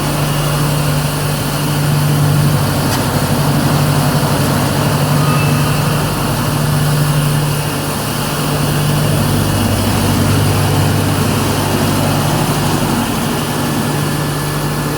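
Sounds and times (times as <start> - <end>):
grinding machine running: 0.0 - 14.9.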